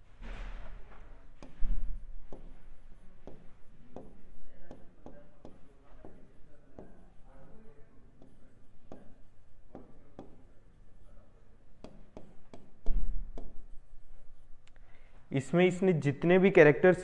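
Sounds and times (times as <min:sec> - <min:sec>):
stylus tapping and scratching screen: 0:00.3 - 0:11.0, 0:11.8 - 0:14.8.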